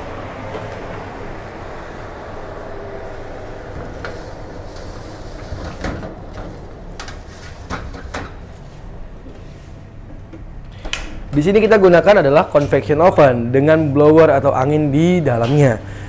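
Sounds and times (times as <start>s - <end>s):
oven blower fan humming: 0.0s - 16.0s.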